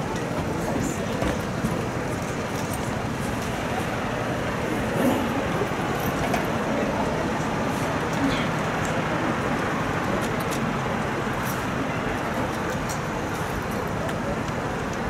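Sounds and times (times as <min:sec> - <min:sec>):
stadium crowd murmur: 0:00.0 - 0:15.0.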